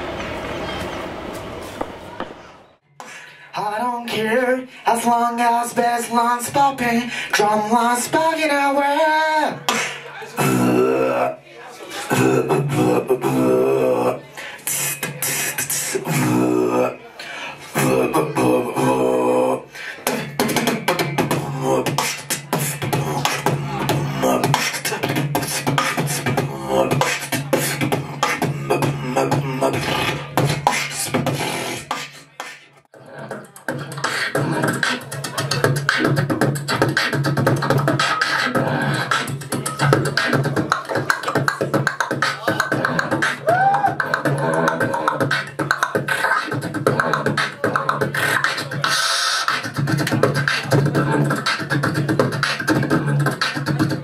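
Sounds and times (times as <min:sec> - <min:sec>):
person beatboxing into a microphone: 0:03.0 - 0:54.0.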